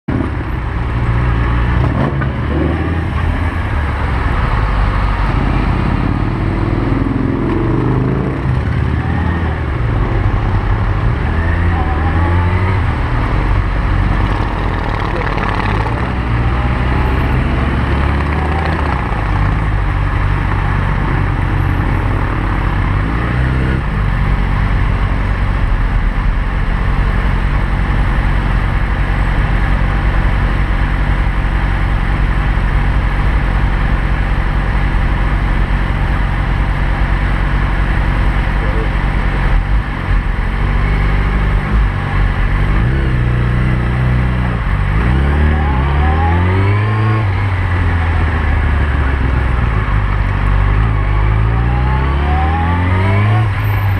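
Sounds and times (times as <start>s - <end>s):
vehicle engine droning: 0.1s - 53.9s.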